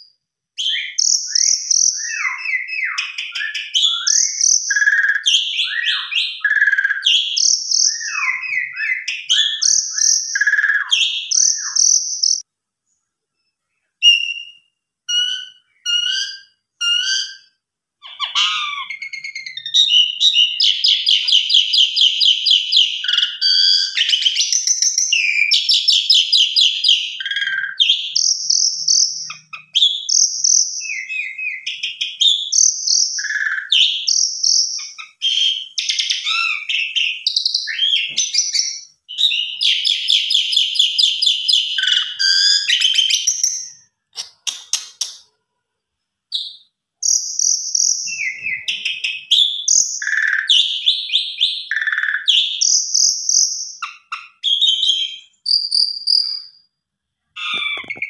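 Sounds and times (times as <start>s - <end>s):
starling singing: 0.6s - 12.4s, 14.0s - 45.2s, 46.4s - 56.5s, 57.4s - 58.0s.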